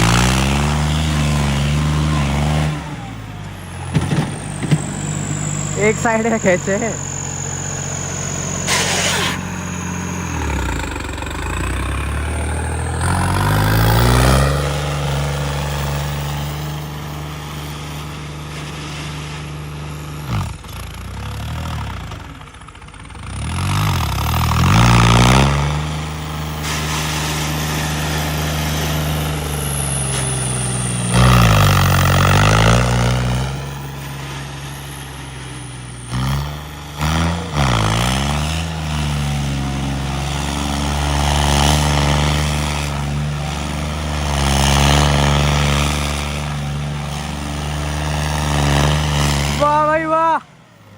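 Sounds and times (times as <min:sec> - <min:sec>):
diesel tractor engines under load: 0:00.0 - 0:50.9.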